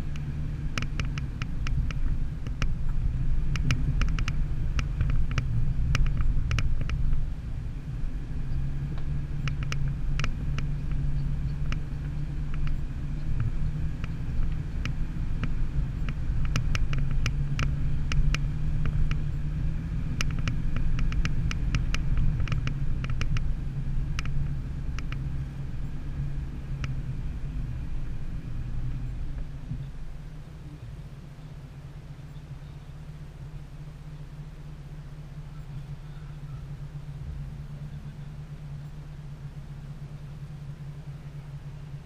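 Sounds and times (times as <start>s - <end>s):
vehicle clicks and knocks over ruts: 0.0s - 42.0s
vehicle engine low rumble: 0.0s - 42.0s.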